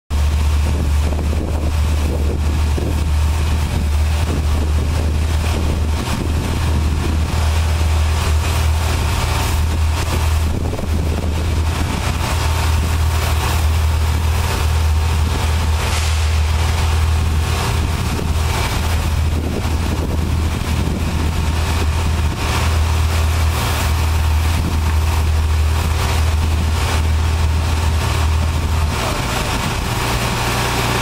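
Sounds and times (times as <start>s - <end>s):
low machine drone: 0.1s - 31.0s.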